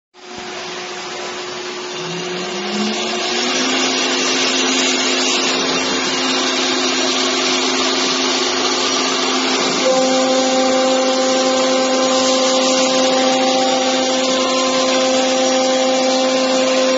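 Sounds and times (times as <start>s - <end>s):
spindle motor whine: 0.2s - 16.9s.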